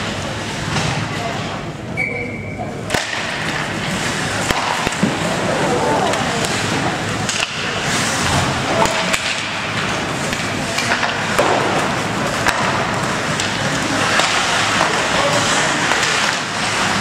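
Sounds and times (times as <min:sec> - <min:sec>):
sticks and puck clacking: 0:02.9 - 0:17.0
skate blades scraping ice: 0:03.1 - 0:17.0.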